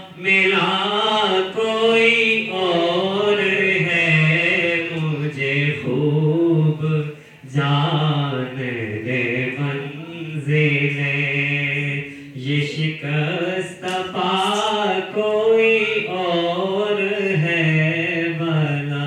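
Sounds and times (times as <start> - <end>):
man chanting unaccompanied: 0.0 - 19.0.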